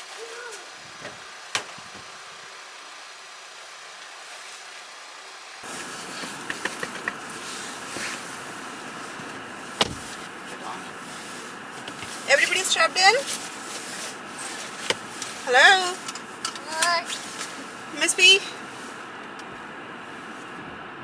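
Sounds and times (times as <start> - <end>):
faint steady hiss: 0.0 - 21.0
car engine running: 0.7 - 3.8, 5.6 - 21.0.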